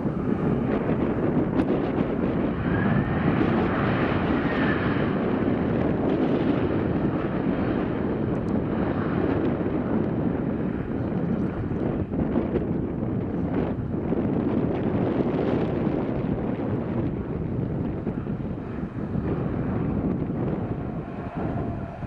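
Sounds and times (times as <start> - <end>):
jet engine noise: 0.0 - 22.0
wind buffeting microphone: 0.0 - 22.0.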